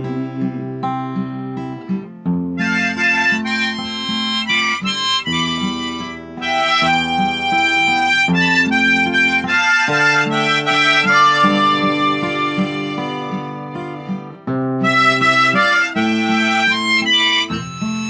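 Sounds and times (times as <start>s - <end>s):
acoustic guitar accompaniment: 0.0s - 18.0s
harmonica melody: 0.0s - 18.0s.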